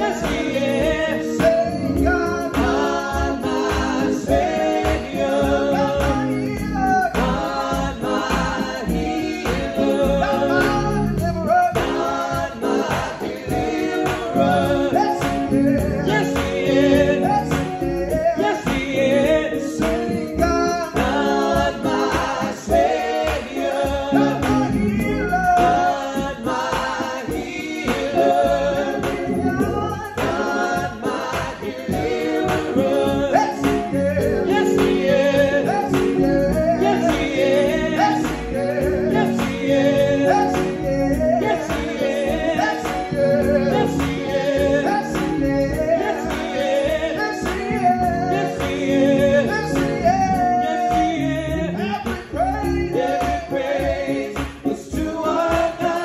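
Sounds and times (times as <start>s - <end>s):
men singing gospel in harmony: 0.0s - 56.0s
organ playing sustained chords: 0.0s - 56.0s.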